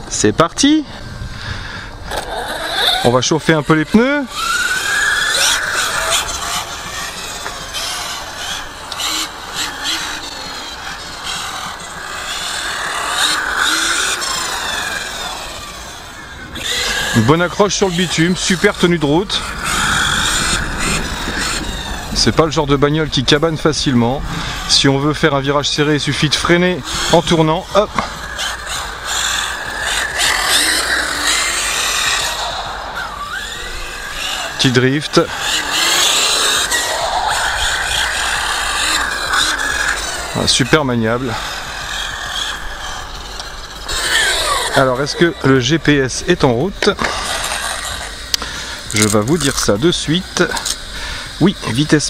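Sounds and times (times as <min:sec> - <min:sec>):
electric motor whining: 0:01.0 - 0:52.0.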